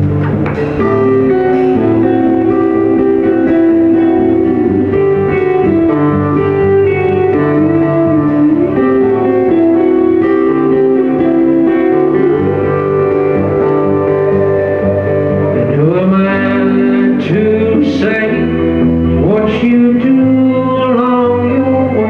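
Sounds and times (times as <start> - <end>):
bass guitar: 0.0 - 22.0
drums: 0.0 - 22.0
pedal steel guitar sliding notes: 0.0 - 22.0
strummed acoustic guitar: 0.0 - 22.0.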